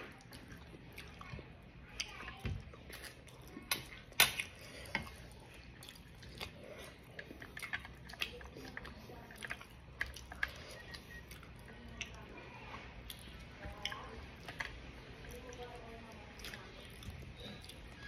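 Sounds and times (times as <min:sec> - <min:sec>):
person chewing with wet clicks: 0:00.0 - 0:18.0.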